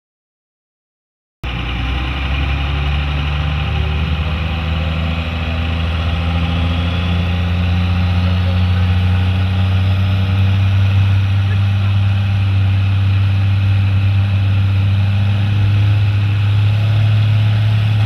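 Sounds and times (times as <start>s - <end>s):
diesel truck engine idling: 1.4s - 18.0s.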